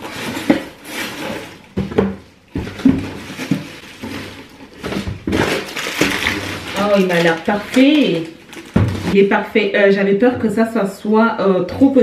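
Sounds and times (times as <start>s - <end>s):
cardboard and plastic wrap rustling: 0.0s - 9.7s.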